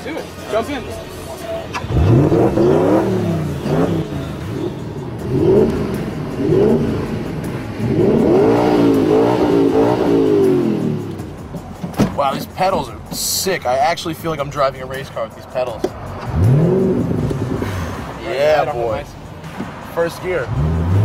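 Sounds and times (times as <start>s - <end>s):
car engine starting and revving: 0.1s - 13.0s, 15.8s - 18.9s, 19.5s - 21.0s.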